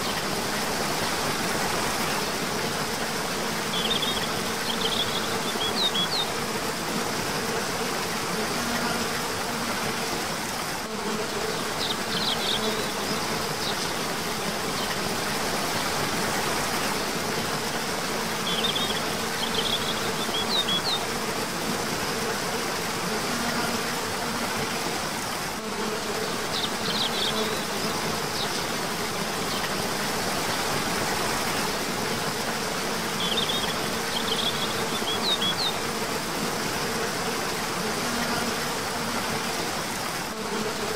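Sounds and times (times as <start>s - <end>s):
waterfall rushing: 0.0s - 10.9s, 11.5s - 40.4s.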